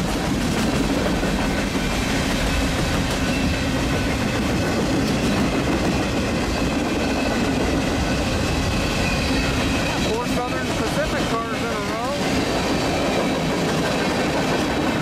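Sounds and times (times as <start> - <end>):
freight train wheels clattering: 0.0 - 15.0.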